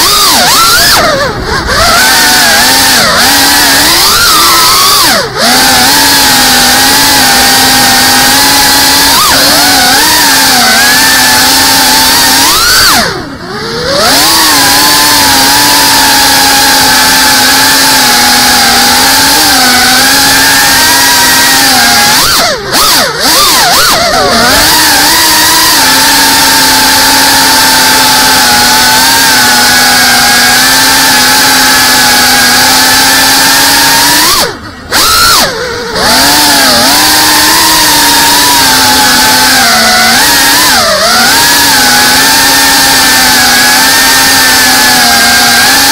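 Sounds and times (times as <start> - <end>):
drone motors whining: 0.0 - 45.9.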